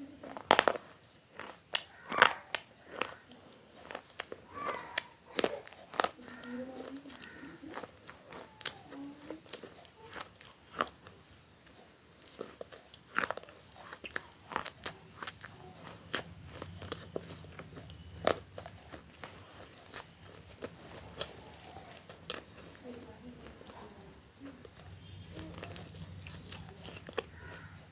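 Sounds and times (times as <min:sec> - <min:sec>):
crunchy food chewing: 0:00.0 - 0:27.9.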